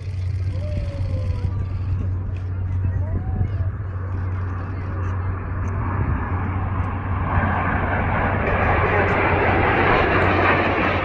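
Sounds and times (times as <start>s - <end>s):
jet aircraft passing overhead: 0.0s - 11.0s.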